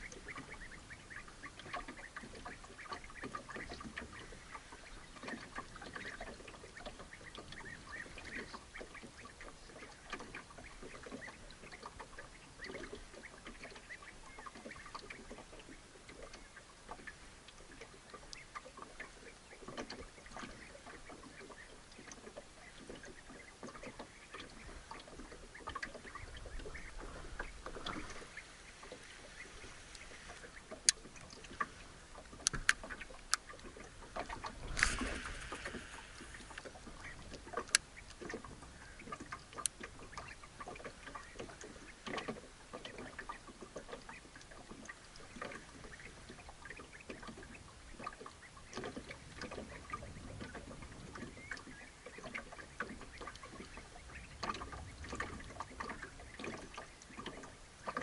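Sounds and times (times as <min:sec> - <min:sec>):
small waves lapping against boat: 0:00.0 - 0:58.0.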